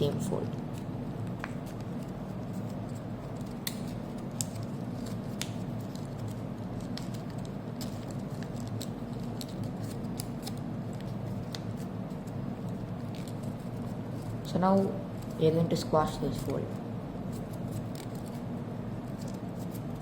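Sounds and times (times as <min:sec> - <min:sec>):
stiff paper being folded: 0:00.0 - 0:20.0.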